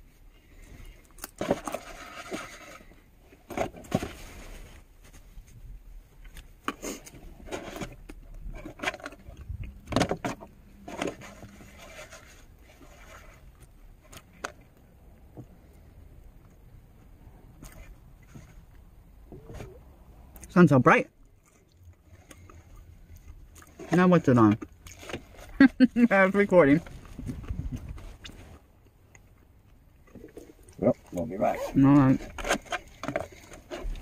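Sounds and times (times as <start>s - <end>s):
rustling and scraping of objects: 0.0s - 20.1s, 21.3s - 34.0s.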